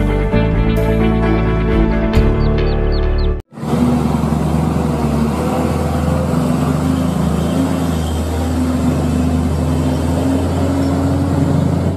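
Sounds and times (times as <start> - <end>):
diesel truck engine droning: 0.0 - 11.9.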